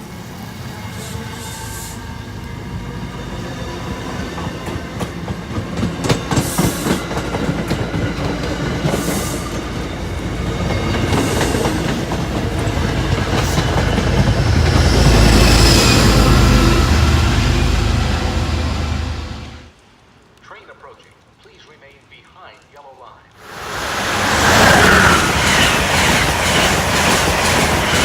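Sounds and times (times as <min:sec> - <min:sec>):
deep train rumble: 0:00.0 - 0:19.7, 0:23.4 - 0:28.0.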